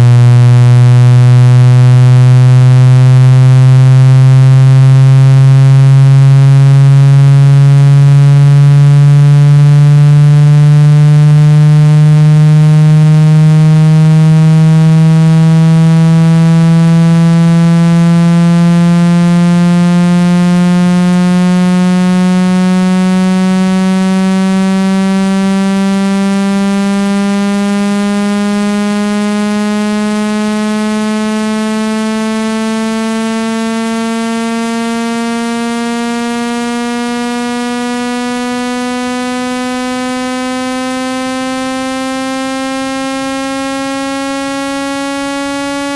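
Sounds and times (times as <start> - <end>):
synthesized buzz tone sweeping upward: 0.0 - 45.9.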